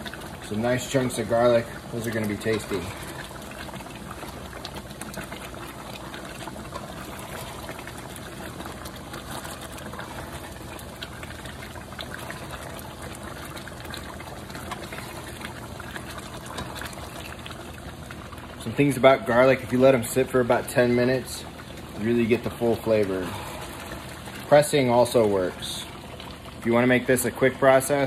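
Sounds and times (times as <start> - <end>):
sauce bubbling and popping: 0.0 - 28.0.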